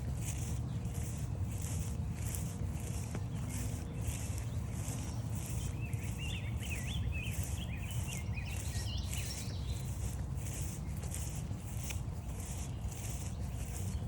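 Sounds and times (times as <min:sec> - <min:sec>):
footsteps crunching on trail: 0:00.0 - 0:14.0
songbird singing: 0:00.0 - 0:14.0.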